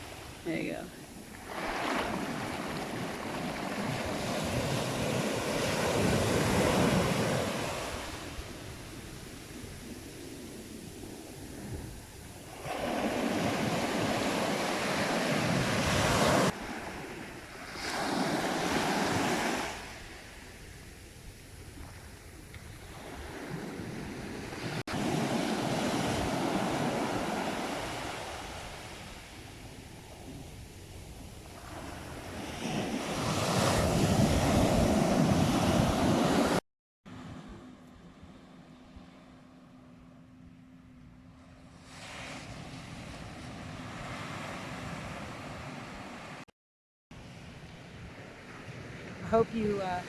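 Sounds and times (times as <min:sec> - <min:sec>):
ocean waves breaking: 0:00.0 - 0:21.0, 0:21.6 - 0:46.5.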